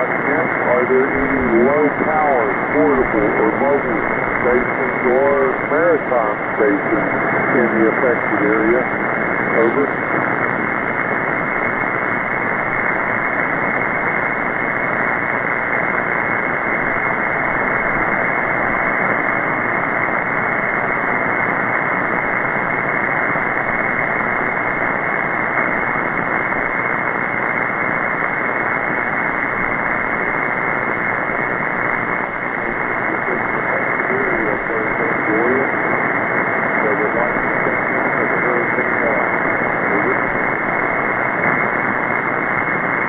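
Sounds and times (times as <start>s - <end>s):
radio band noise hiss: 0.0s - 43.0s.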